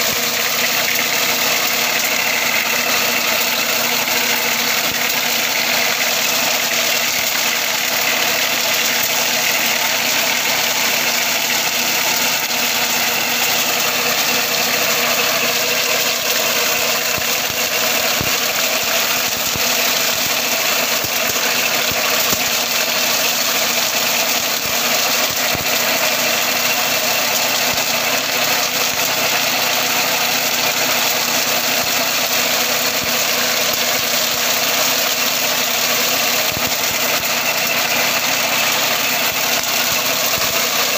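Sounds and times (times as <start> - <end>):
sugarcane machine working: 0.0 - 40.9
tractor engine running: 0.0 - 40.9.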